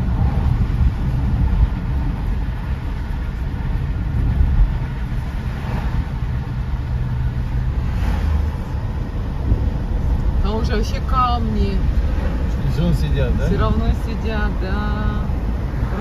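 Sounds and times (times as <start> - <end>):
car road noise from inside: 0.0 - 16.0.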